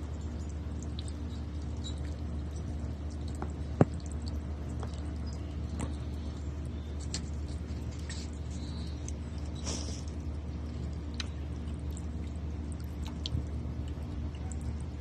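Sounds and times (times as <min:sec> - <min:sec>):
small splashes and drips: 0:00.0 - 0:15.0
steady low hum: 0:00.0 - 0:15.0
water trickling into birdbath: 0:00.0 - 0:15.0.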